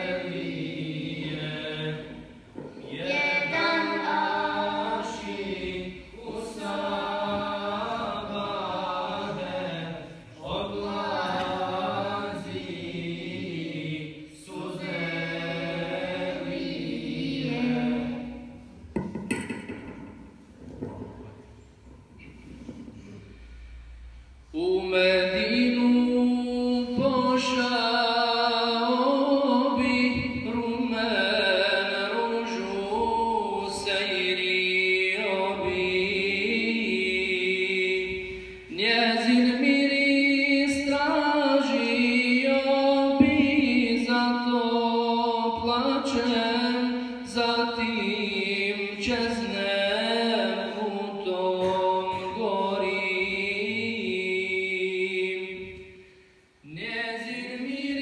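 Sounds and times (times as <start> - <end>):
man chanting recitation: 0.0 - 18.5, 24.5 - 56.0, 56.6 - 58.0.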